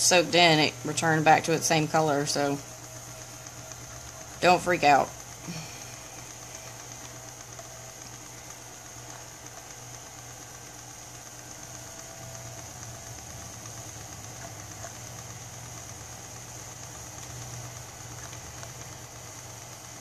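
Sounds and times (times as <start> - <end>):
small electric motor humming: 0.0 - 20.0.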